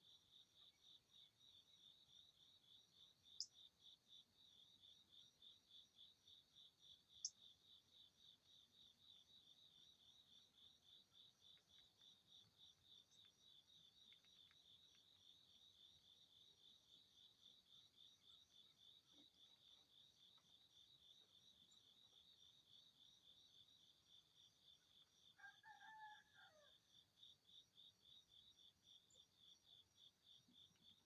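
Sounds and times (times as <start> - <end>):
insect chirping: 0.0 - 31.0.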